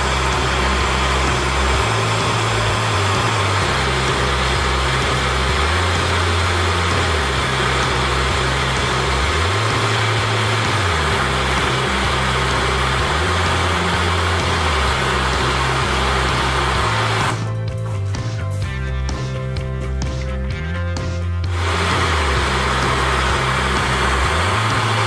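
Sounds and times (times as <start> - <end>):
blowtorch flame hissing: 0.0 - 17.4, 21.5 - 25.0.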